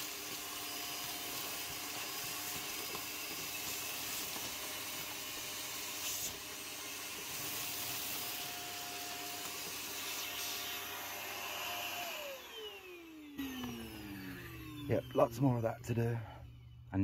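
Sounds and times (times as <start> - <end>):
vacuum cleaner motor whine: 0.0 - 17.0
vacuum sucking debris: 0.4 - 17.0.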